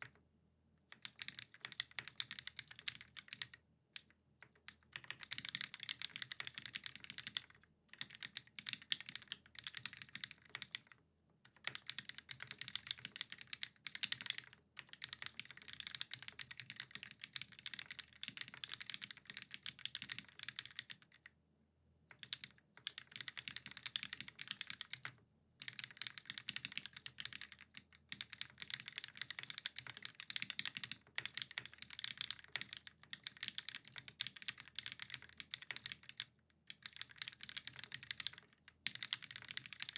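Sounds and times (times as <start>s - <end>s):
mechanical keyboard typing: 0.9s - 21.2s, 22.1s - 39.9s.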